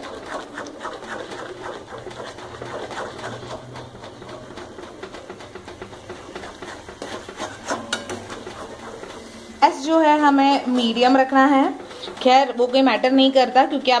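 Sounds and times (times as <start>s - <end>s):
spatula scraping metal pan: 0.0s - 14.0s.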